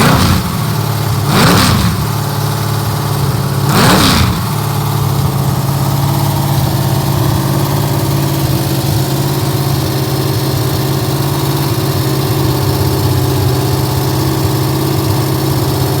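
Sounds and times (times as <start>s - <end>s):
engine fast idle: 0.0s - 16.0s.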